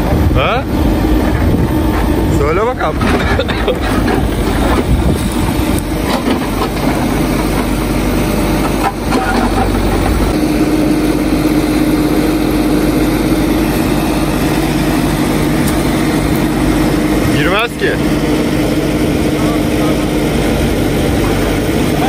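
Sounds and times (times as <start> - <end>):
diesel engine idling: 0.0 - 22.0
steady hum: 0.0 - 22.0.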